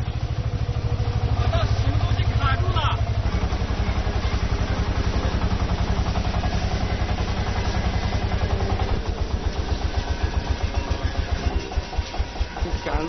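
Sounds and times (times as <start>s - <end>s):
machine engine running: 0.0s - 13.0s.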